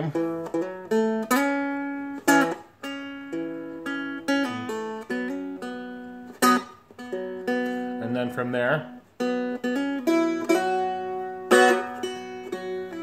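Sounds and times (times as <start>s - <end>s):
dulcimer strumming chords: 0.0s - 13.0s.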